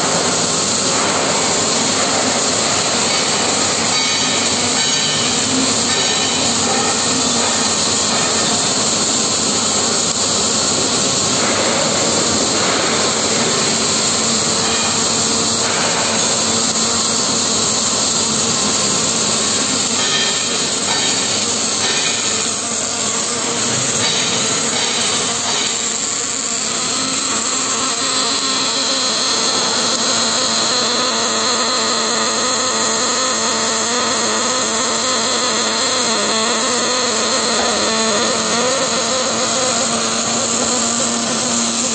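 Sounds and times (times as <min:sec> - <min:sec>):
welding torch arc hissing: 0:00.0 - 0:41.9.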